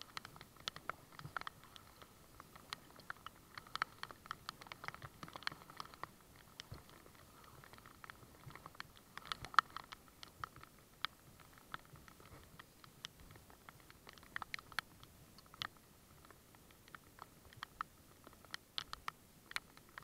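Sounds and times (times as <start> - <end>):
drops tapping on camera: 0.0 - 20.0.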